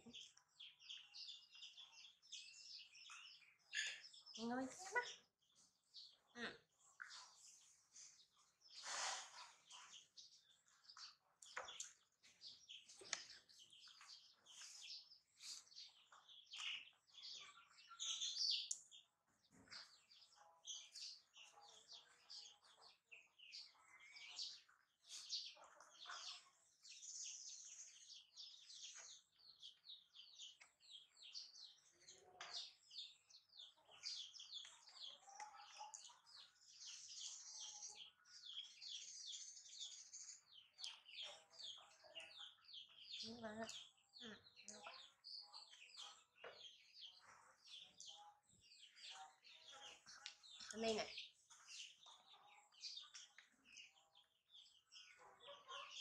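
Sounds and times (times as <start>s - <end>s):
faint small birds twittering: 0.0s - 56.0s.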